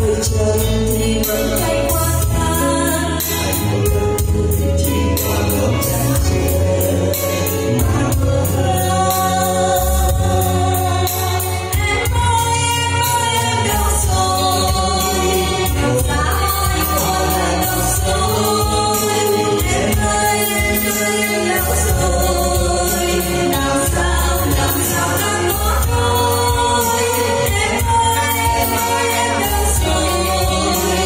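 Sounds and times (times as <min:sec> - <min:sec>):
amplified musical accompaniment: 0:00.0 - 0:31.0
man and woman singing duet: 0:00.0 - 0:31.0.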